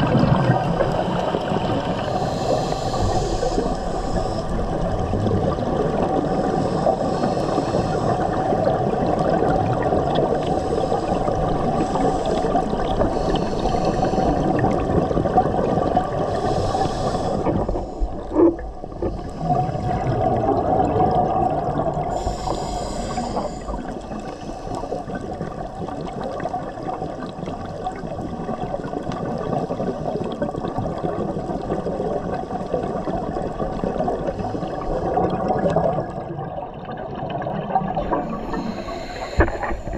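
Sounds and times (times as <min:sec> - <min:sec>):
muffled underwater rumble: 0:00.0 - 0:39.9
regulator bubbles hissing: 0:00.0 - 0:39.9.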